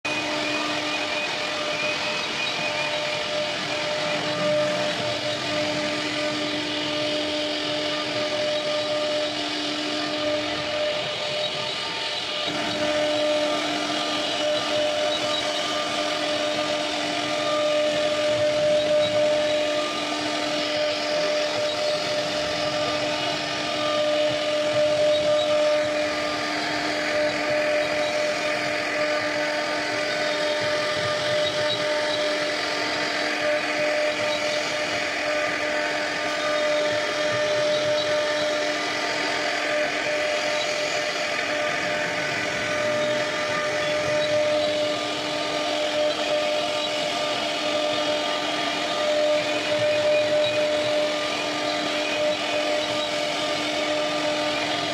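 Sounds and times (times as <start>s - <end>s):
hiss of wood being cut: 0.0s - 54.9s
router spindle whine: 0.0s - 54.9s.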